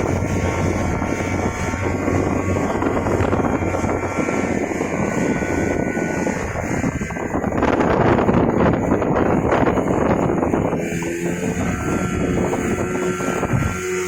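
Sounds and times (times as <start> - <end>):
speedboat engine running: 0.0 - 14.0
wind buffeting the microphone: 0.0 - 14.0.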